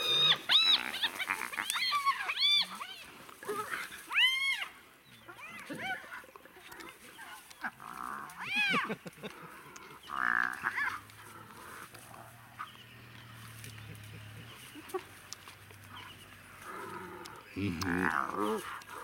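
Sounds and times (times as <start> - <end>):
wild dogs high-pitched calls: 0.0 - 19.0.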